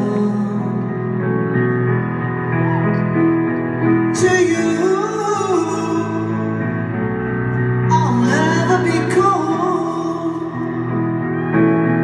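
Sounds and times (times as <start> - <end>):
solo piano: 0.0 - 12.0.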